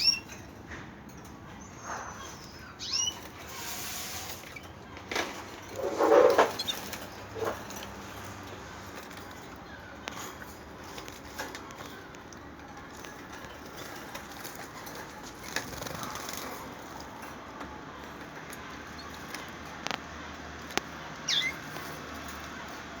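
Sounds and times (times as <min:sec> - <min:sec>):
birds fluttering wings: 0:03.1 - 0:23.0.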